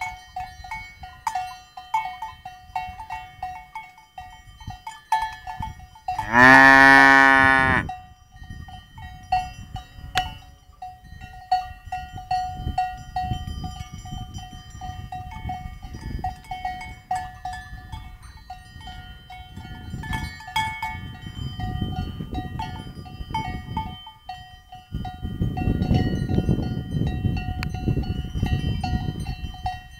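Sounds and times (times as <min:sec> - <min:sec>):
cowbells clanking: 0:00.0 - 0:29.9.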